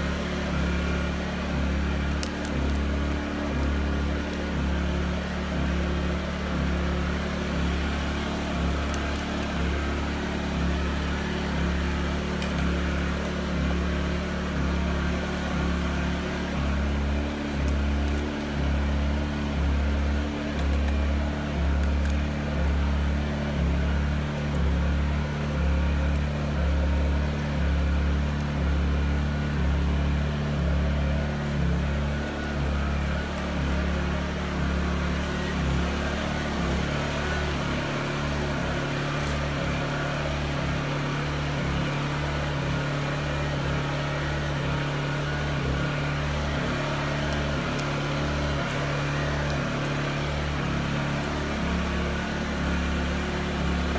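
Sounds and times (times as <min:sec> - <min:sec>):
engine humming and throbbing: 0:00.0 - 0:53.9.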